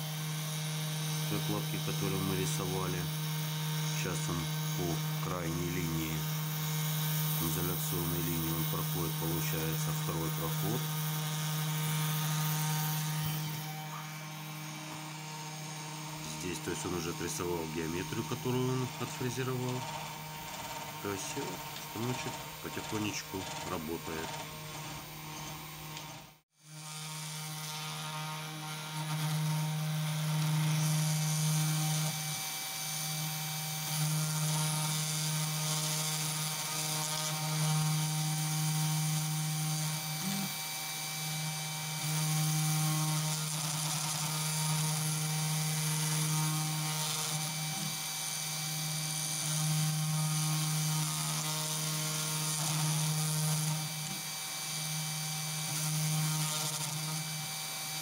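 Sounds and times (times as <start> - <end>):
router spindle motor hum: 0.0 - 58.0.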